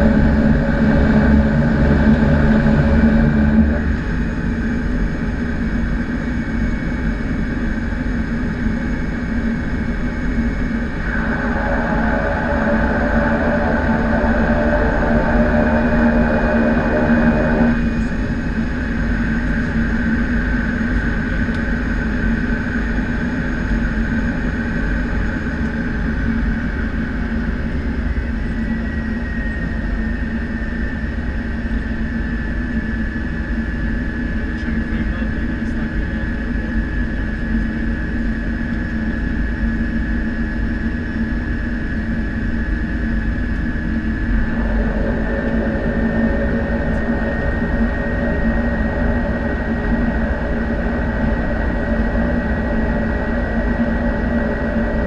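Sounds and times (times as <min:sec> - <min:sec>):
turboprop engine drone and whine: 0:00.0 - 0:55.0.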